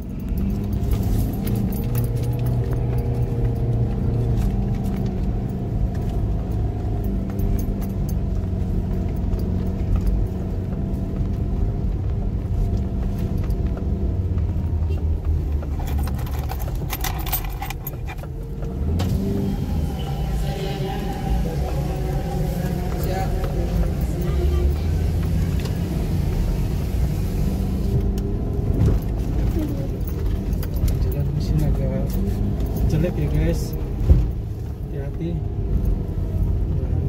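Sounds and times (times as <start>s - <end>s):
car engine and road hum: 0.0s - 37.0s
rattling and clicking in car: 0.0s - 37.0s.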